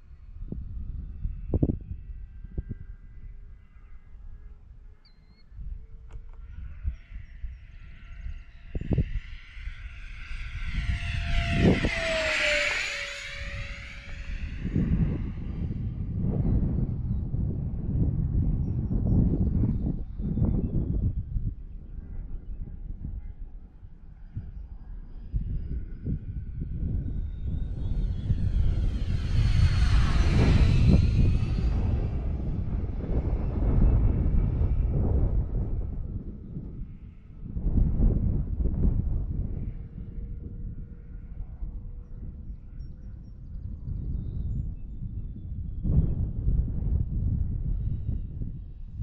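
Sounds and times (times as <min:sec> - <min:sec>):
low wind rumble: 0:00.0 - 0:49.0
model jet engine whine: 0:00.0 - 0:49.0.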